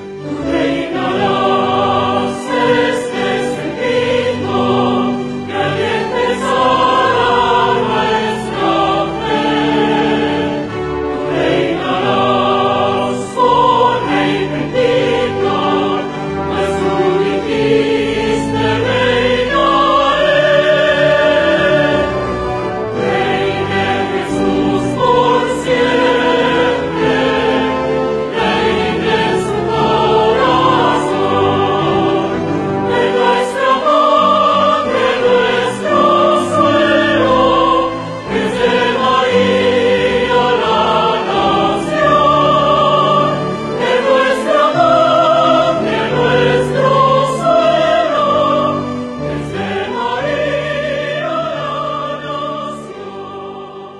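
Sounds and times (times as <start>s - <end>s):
choir singing sustained notes: 0.0s - 53.9s
orchestral accompaniment: 0.0s - 53.9s.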